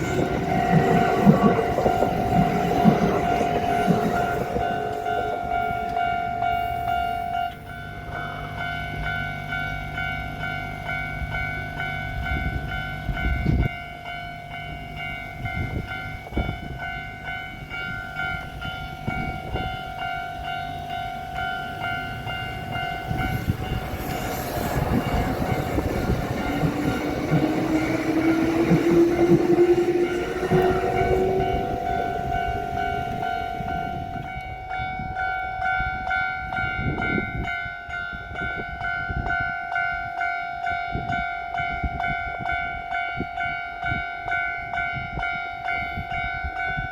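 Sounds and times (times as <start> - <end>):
electric train rumble and wheel clatter: 0.0 - 46.9
level crossing warning bell ringing: 0.0 - 46.9
train whine: 0.0 - 46.9.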